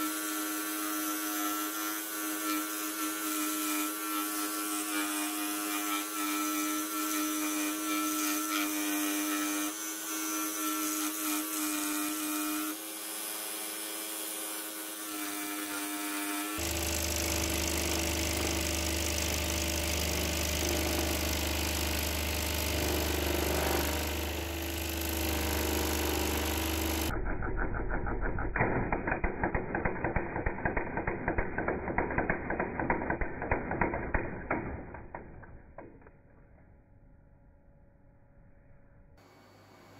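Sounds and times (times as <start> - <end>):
scroll saw cutting wood: 0.0 - 35.9.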